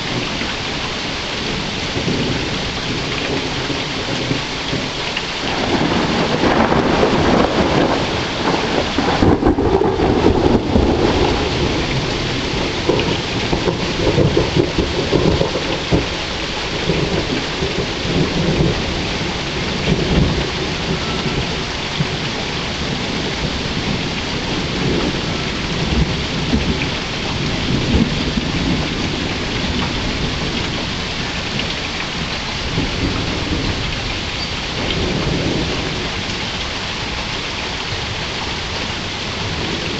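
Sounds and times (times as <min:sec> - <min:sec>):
thunder rumbling: 0:00.0 - 0:37.2, 0:37.8 - 0:39.9
steady rain: 0:00.0 - 0:39.9.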